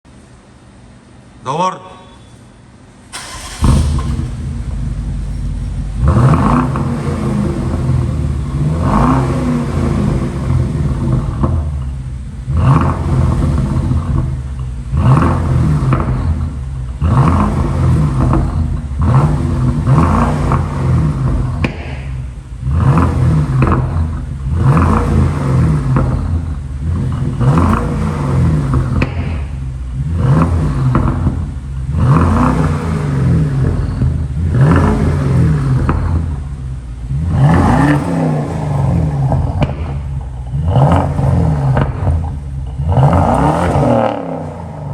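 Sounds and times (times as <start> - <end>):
car engine idling and revving: 2.9 - 44.9.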